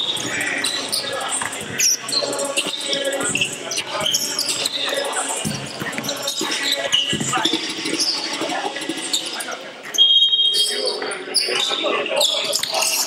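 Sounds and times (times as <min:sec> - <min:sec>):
shoe squeaks on court: 0:00.0 - 0:13.0
voices echoing in hall: 0:00.0 - 0:13.0.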